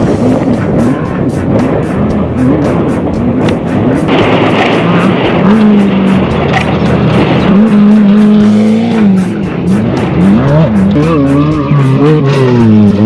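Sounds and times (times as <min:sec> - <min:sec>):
music playing: 0:00.0 - 0:13.0
race vehicle engine revving: 0:00.0 - 0:13.0.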